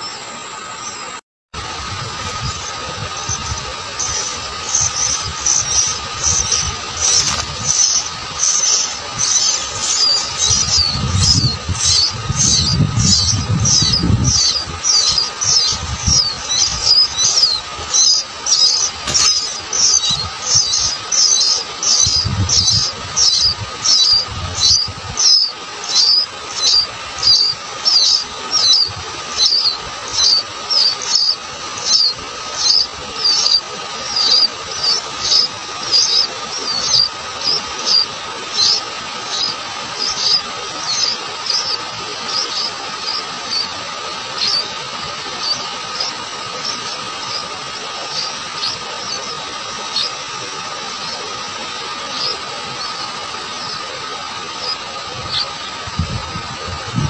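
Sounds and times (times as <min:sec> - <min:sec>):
nestlings begging calls: 0:00.0 - 0:57.0.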